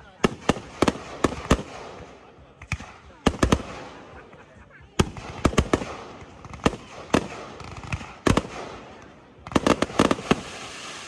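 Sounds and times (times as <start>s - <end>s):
fireworks bangs: 0.0s - 4.4s, 5.0s - 11.0s
fireworks crackling: 0.0s - 11.0s.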